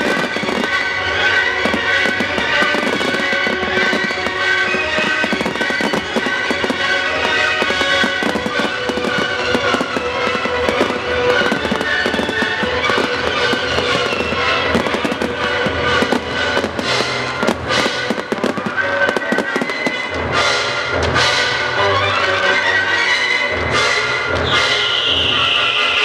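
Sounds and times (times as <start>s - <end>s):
fireworks crackling and banging: 0.0s - 26.0s
music soundtrack: 0.0s - 26.0s.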